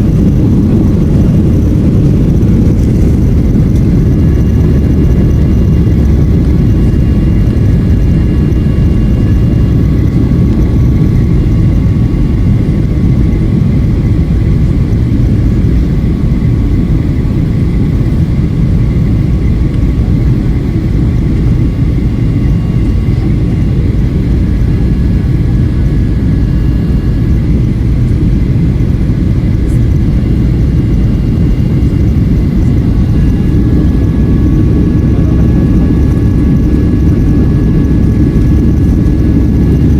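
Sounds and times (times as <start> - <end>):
faint steady whine: 0.0 - 39.9
jet engines rumbling: 0.0 - 39.9.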